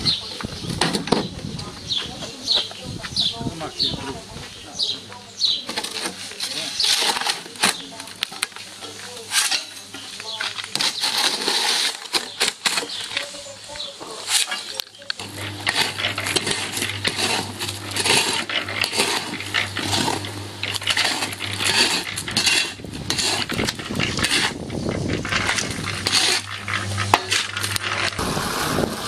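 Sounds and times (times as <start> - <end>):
concrete mixer humming: 0.0 - 29.0
gritty rattle of tumbling mix: 0.0 - 29.0.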